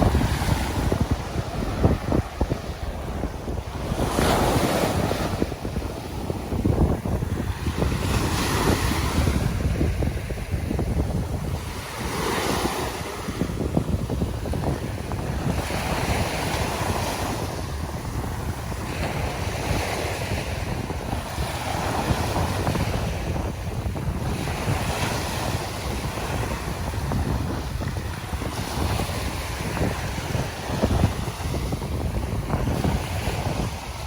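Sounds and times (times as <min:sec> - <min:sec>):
ocean surf breaking: 0:00.0 - 0:34.0
wind buffeting microphone: 0:00.0 - 0:34.0.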